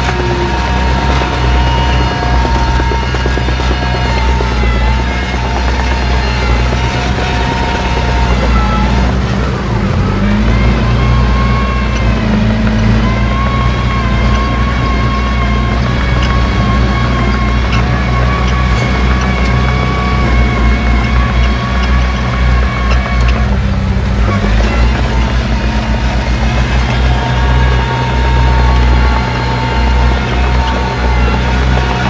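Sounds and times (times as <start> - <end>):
heavy machinery diesel engine: 0.0 - 32.0.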